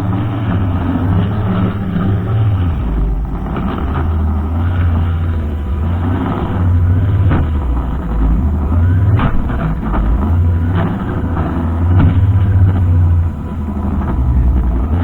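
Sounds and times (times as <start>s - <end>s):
brushcutter engine running: 0.0s - 15.0s.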